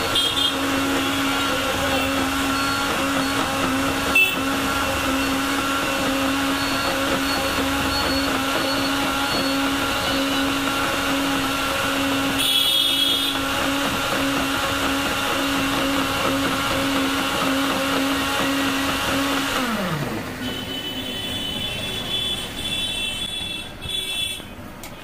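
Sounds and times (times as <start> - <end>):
blender running: 0.0 - 23.6.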